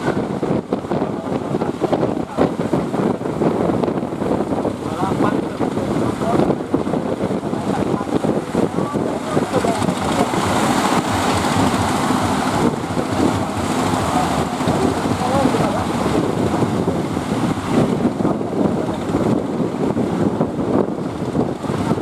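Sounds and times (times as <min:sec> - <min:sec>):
ocean waves and surf: 0:00.0 - 0:22.0
wind buffeting microphone: 0:00.0 - 0:22.0.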